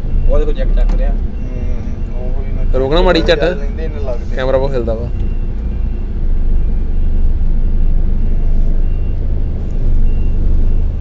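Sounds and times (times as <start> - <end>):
diesel truck engine rumbling: 0.0 - 11.0
reversing alarm beeps: 0.0 - 11.0.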